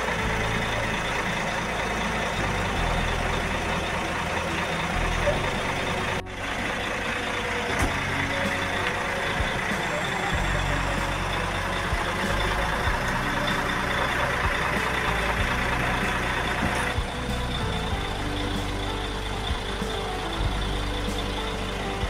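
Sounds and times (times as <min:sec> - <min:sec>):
diesel bus engines idling: 0:00.0 - 0:22.0
indistinct voices: 0:00.0 - 0:22.0.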